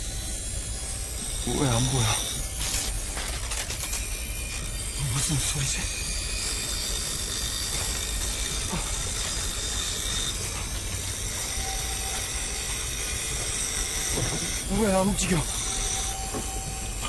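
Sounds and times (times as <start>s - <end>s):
faint high whining tones: 0.0s - 17.0s
machinery droning: 0.0s - 17.0s.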